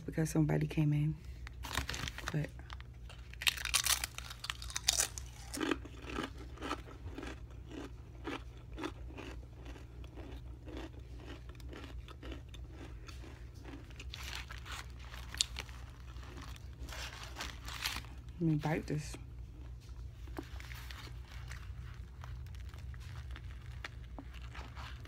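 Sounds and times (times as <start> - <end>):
tortilla chips crunching: 1.4 - 25.0.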